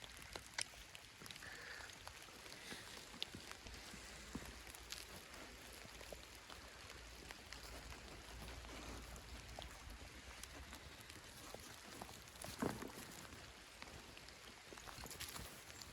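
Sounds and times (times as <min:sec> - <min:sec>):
soft steady hiss: 0:00.0 - 0:15.9.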